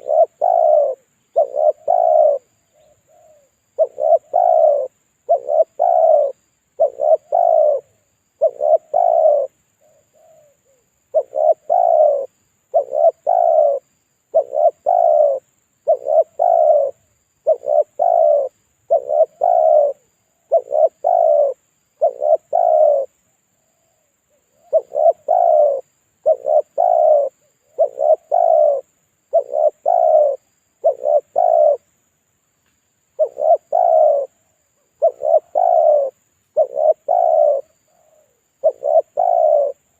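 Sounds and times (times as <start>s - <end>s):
dove cooing: 0.0s - 31.9s, 33.2s - 39.9s.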